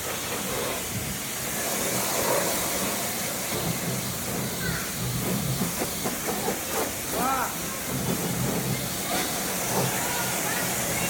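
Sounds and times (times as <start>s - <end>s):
water spray hissing: 0.0s - 11.0s.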